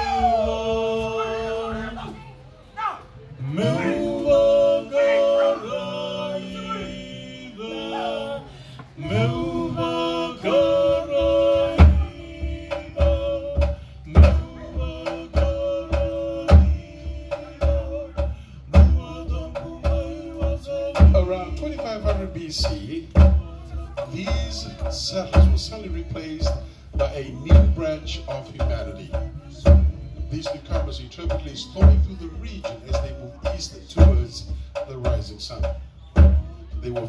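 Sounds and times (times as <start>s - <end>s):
group singing held notes: 0.0s - 2.2s, 3.4s - 30.9s
drum beating: 3.5s - 37.0s.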